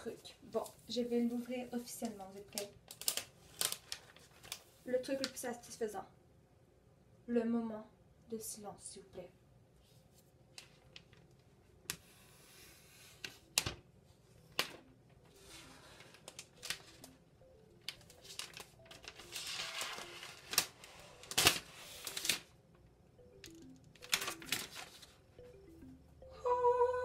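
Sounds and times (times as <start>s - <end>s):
faint music: 0.0s - 6.4s, 7.2s - 27.0s.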